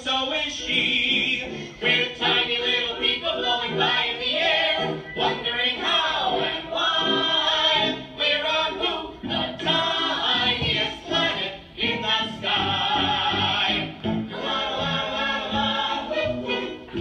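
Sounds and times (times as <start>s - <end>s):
group of voices singing: 0.0s - 17.0s.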